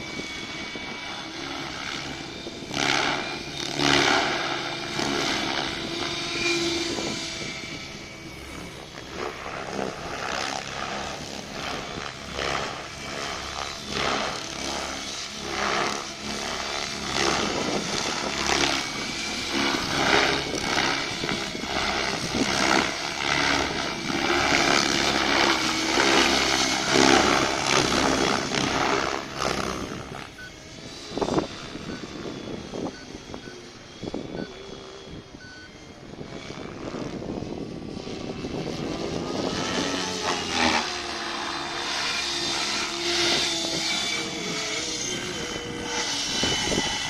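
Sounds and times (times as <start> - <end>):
model helicopter rotor and motor: 0.0 - 47.0.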